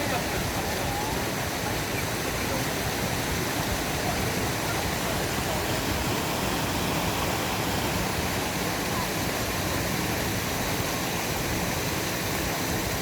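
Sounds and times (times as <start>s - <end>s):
rushing stream water: 0.0s - 13.0s.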